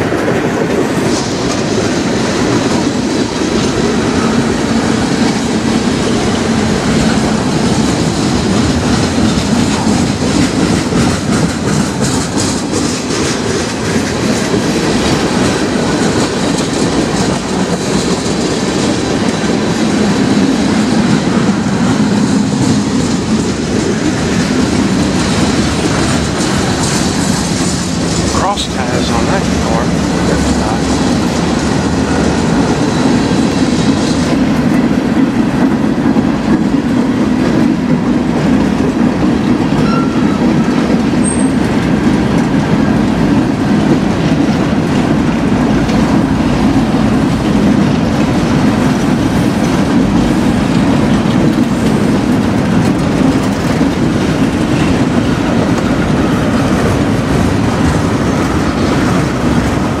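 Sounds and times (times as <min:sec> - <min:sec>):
steel wheels rumbling on rails: 0:00.0 - 1:00.0.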